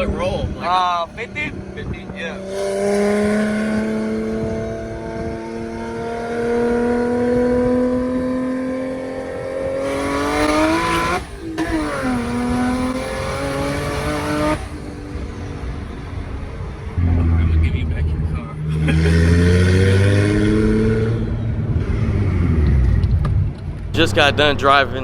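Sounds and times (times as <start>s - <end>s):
turbo car engine accelerating: 0.0s - 25.0s.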